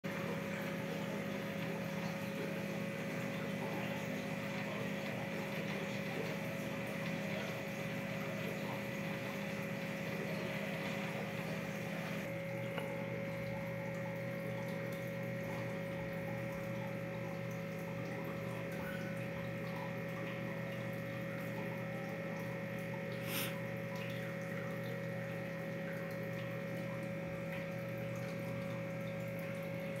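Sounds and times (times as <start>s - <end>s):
aquarium pump humming: 0.0s - 30.0s
water trickling: 0.1s - 30.0s.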